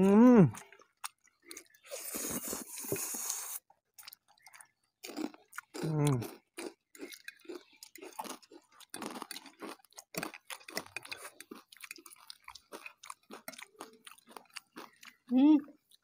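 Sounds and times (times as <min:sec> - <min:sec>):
people chewing noodles: 0:00.0 - 0:16.0.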